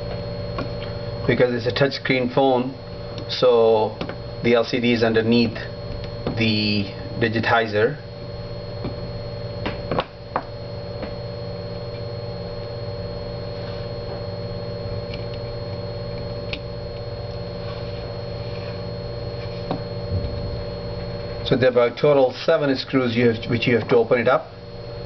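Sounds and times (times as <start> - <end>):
electrical mains hum: 0.0 - 25.0
thin high whine: 0.0 - 25.0.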